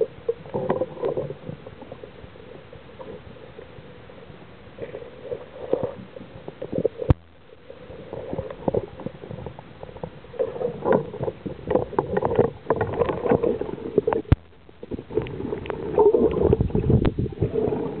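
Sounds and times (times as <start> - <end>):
water swishing underwater: 0.0 - 18.0.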